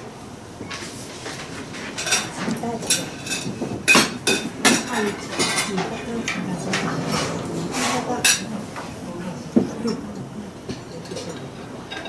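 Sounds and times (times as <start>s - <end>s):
voices chatting quietly: 1.4s - 12.0s.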